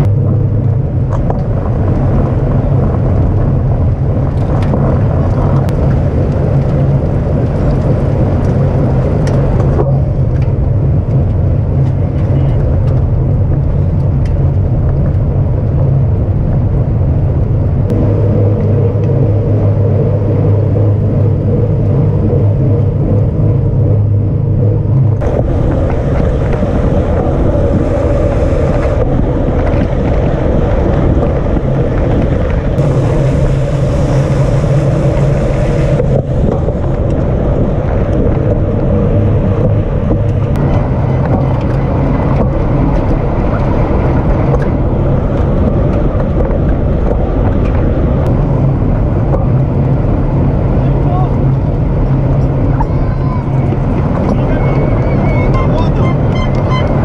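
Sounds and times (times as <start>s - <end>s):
road rumble: 0.0s - 57.0s
steady low hum: 0.0s - 57.0s
wind rush: 0.0s - 57.0s.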